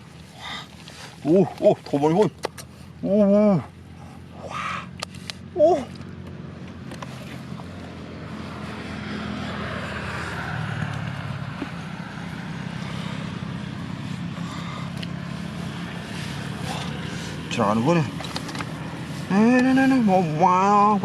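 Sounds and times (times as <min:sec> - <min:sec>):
motor engine humming: 0:00.0 - 0:21.0.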